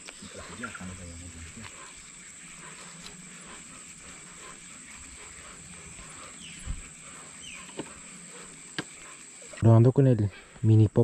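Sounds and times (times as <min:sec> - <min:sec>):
falling chirps: 0:00.0 - 0:09.6
insects buzzing: 0:00.0 - 0:11.0.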